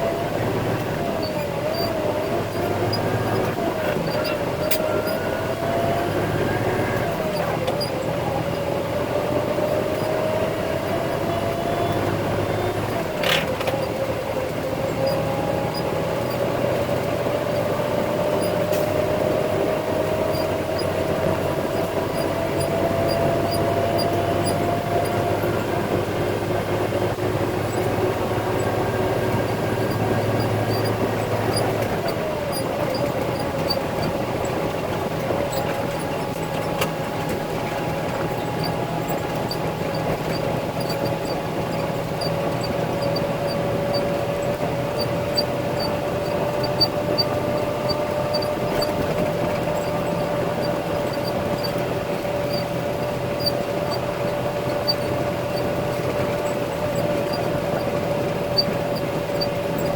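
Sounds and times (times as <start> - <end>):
truck diesel engine under load: 0.0 - 59.9.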